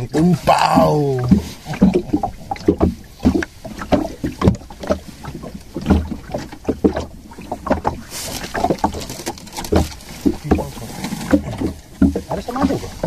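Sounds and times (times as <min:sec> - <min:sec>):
water slapping against boat hull: 0:00.0 - 0:13.0.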